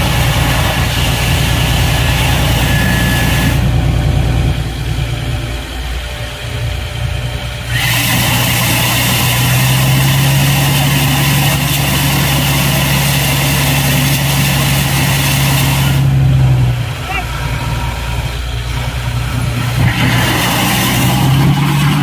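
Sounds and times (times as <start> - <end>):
drilling rig engine hum: 0.0 - 22.0
loud rushing hiss: 0.0 - 22.0.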